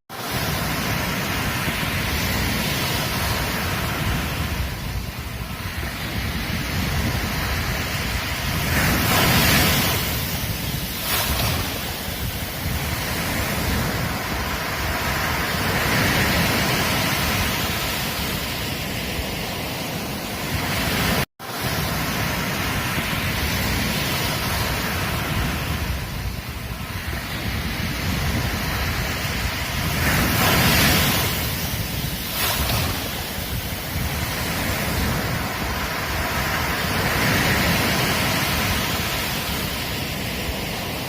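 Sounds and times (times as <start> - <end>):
ocean surf breaking on beach: 0.1 - 41.0
wind buffeting microphone: 0.1 - 41.0.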